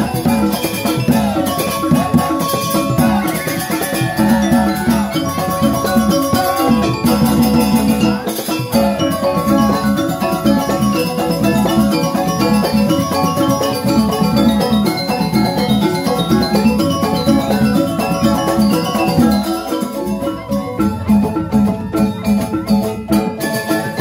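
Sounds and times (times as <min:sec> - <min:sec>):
bamboo xylophones ringing: 0:00.0 - 0:24.0
hand drums: 0:00.0 - 0:24.0.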